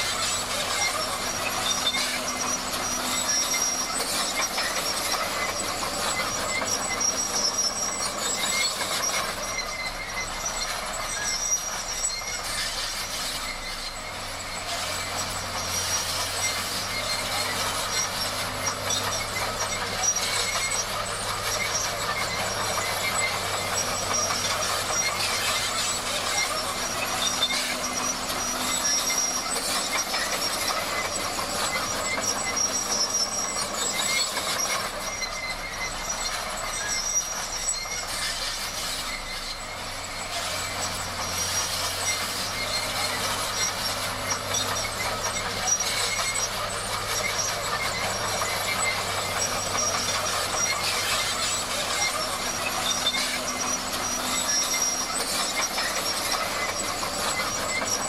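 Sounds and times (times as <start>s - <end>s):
bulldozer engine low hum: 0.0s - 58.0s
crawler tracks clanking and squealing: 0.0s - 58.0s.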